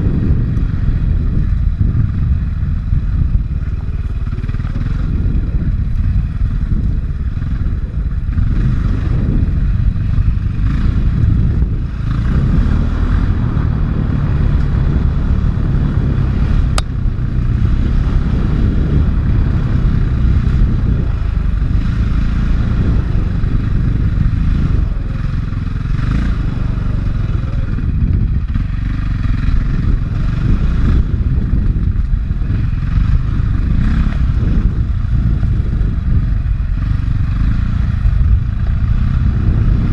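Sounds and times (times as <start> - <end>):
dirt bike engine revving: 0.0 - 39.9
wind buffeting: 0.0 - 39.9.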